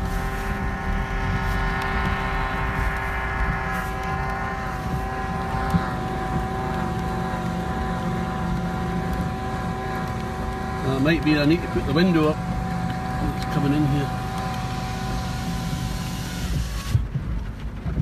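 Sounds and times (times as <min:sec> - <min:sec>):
car engine drone inside car: 0:00.0 - 0:18.0.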